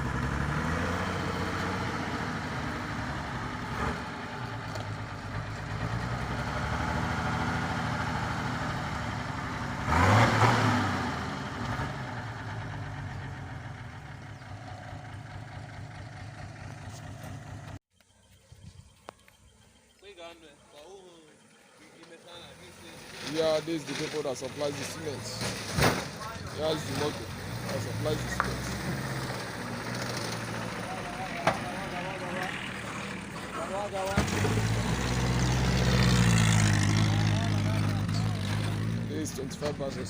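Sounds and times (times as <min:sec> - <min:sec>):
truck engine running: 0:00.0 - 0:10.1, 0:10.7 - 0:17.8, 0:22.7 - 0:40.0.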